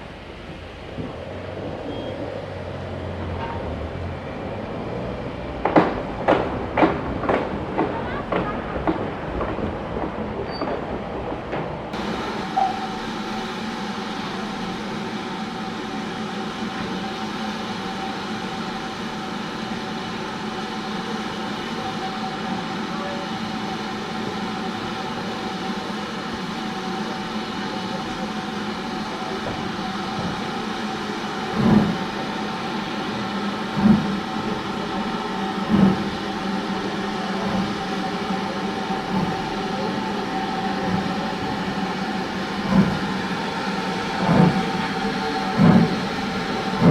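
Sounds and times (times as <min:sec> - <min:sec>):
loud locomotive beats: 0:00.0 - 0:46.9
steam locomotive hissing: 0:00.0 - 0:46.9.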